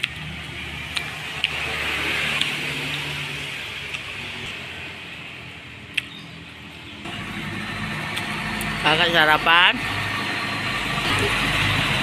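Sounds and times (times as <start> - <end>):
passing vehicle: 0.0 - 12.0.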